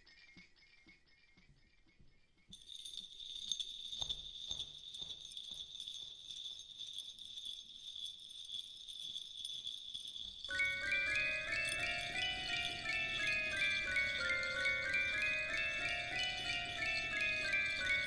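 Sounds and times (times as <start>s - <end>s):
small bells jingling: 2.5s - 18.0s.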